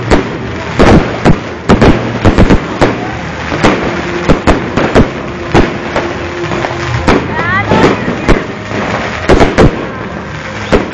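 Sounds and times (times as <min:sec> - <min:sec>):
fireworks bangs and cracks: 0:00.0 - 0:10.9.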